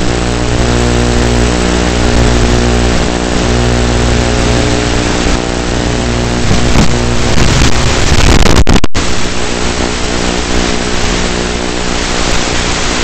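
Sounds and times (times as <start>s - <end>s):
model plane motor droning: 0.0s - 8.2s, 9.0s - 13.0s
constant hiss: 0.0s - 13.0s.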